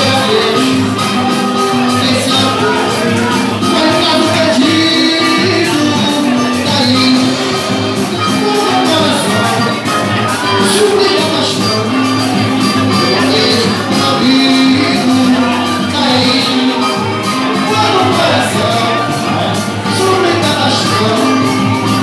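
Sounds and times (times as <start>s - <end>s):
live band playing latin music: 0.0s - 22.0s
steady percussion: 0.0s - 22.0s.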